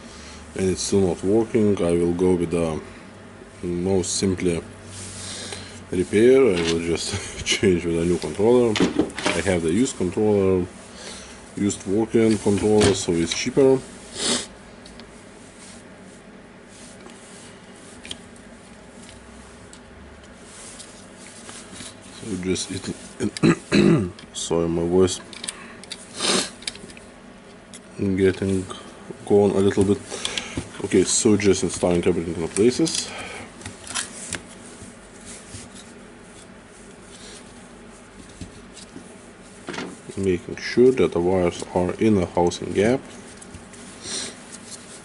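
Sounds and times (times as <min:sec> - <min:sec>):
gloved hands rubbing and rustling: 0:03.6 - 0:23.8, 0:26.0 - 0:45.0.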